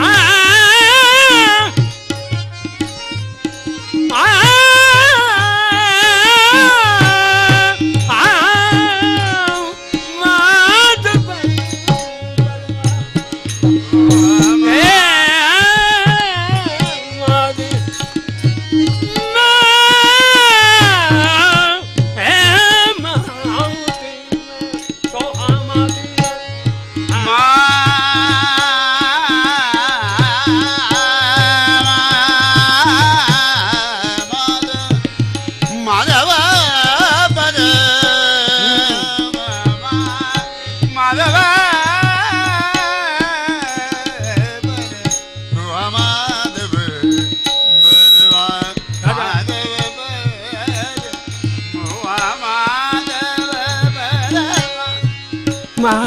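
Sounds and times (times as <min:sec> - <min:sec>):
harmonium: 0:00.0 - 0:56.0
man singing: 0:00.0 - 0:56.0.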